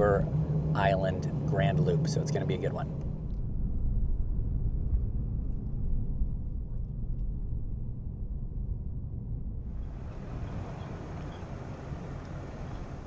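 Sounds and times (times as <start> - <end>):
vehicle rumble from inside cabin: 0.0 - 13.0.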